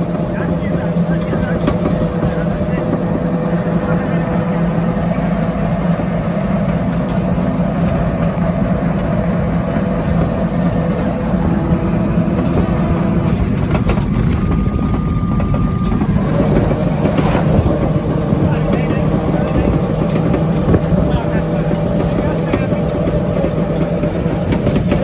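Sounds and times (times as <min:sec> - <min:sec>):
rickshaw engine running: 0:00.0 - 0:25.0
road noise: 0:00.0 - 0:25.0.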